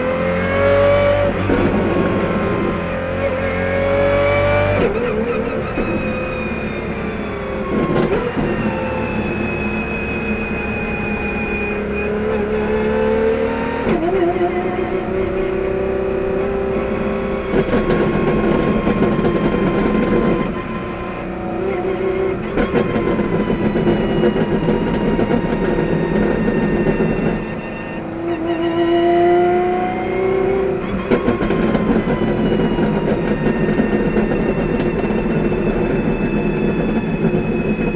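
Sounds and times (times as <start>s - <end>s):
car engine running hard: 0.0s - 37.9s
engine crackles: 0.0s - 37.9s.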